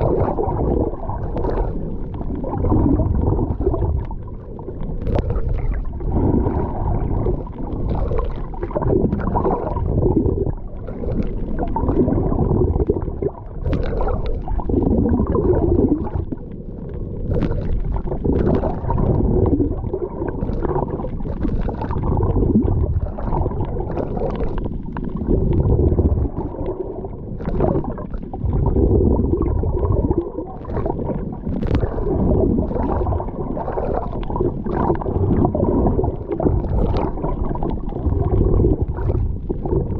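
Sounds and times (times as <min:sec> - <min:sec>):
sea water sloshing and gurgling: 0:00.0 - 0:39.9
sharp clicks and splashes: 0:00.0 - 0:39.9.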